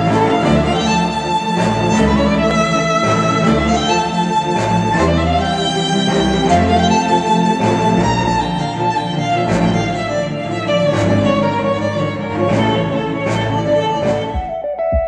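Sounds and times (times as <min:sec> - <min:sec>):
orchestral string music: 0:00.0 - 0:15.0.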